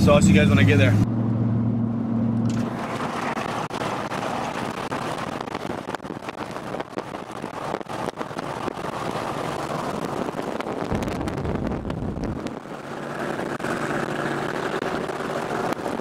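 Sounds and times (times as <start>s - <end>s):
engine hum in cab: 0.0s - 16.0s
road noise: 0.0s - 16.0s
wind buffeting microphone: 2.7s - 16.0s.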